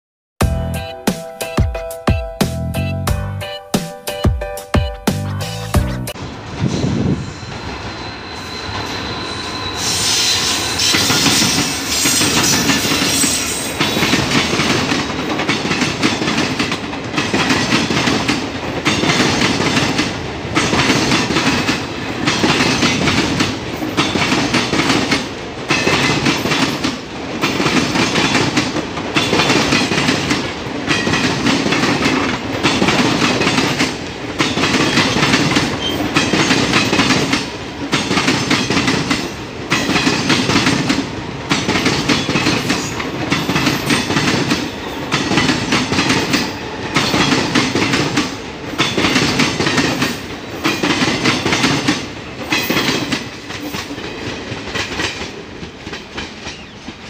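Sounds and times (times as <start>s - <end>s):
train wheels clattering over rail joints: 10.6s - 57.0s.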